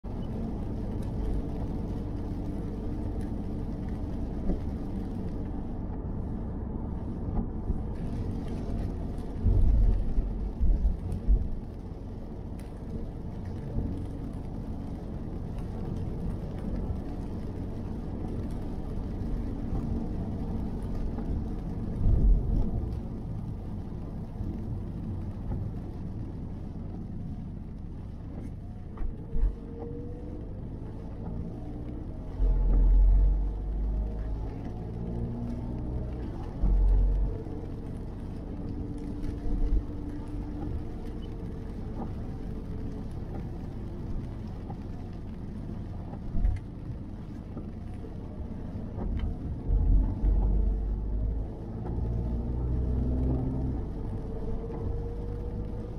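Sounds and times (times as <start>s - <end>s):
car road noise rumble: 0.0s - 55.9s.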